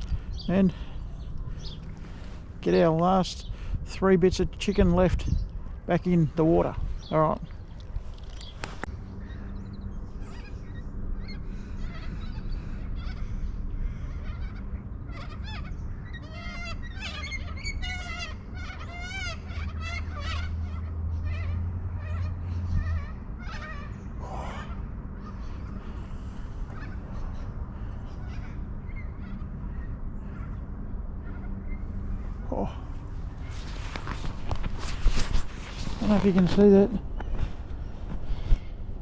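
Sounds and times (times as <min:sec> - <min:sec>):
birds calling: 0:00.0 - 0:39.0
low steady hum: 0:00.0 - 0:39.0.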